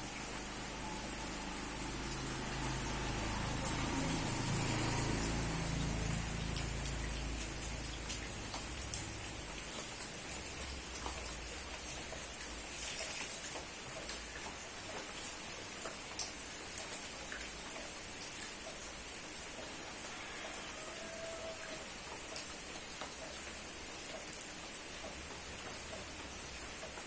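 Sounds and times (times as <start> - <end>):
raindrops ticking on surface: 0.0 - 27.0
steady rain hiss: 0.0 - 27.0.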